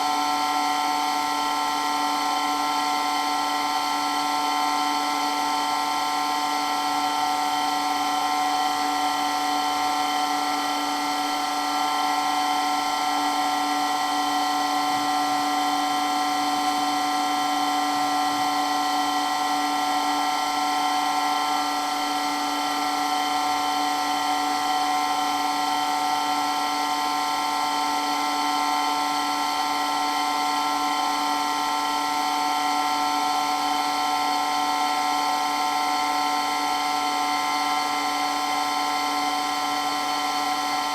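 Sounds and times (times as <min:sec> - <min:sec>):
water pump high whine: 0:00.0 - 0:40.9.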